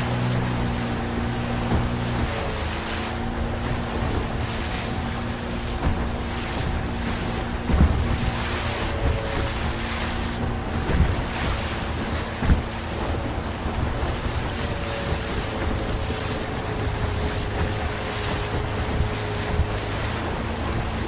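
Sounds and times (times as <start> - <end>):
outboard motor running: 0.0 - 21.0
rushing water: 0.0 - 21.0
wind buffeting microphone: 0.0 - 21.0.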